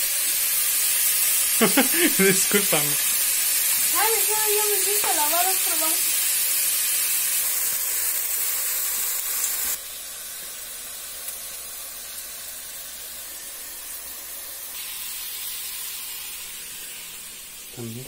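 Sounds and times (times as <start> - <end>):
gas burner hiss: 0.0 - 18.0.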